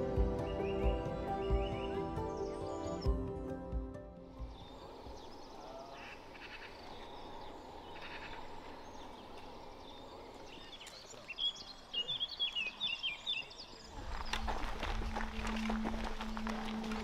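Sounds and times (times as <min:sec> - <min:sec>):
songbird chirping: 0:00.0 - 0:17.0
faint outdoor hiss: 0:03.3 - 0:17.0.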